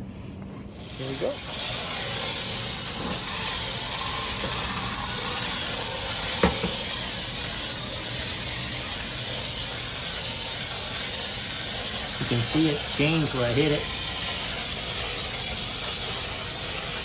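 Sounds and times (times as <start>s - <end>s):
hose spray hissing: 0.7s - 17.0s.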